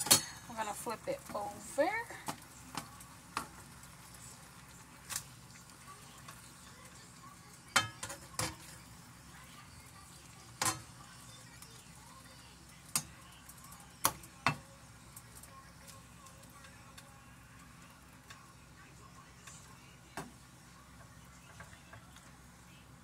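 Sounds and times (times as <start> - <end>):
steaks sizzling in a pan: 0.0 - 23.0.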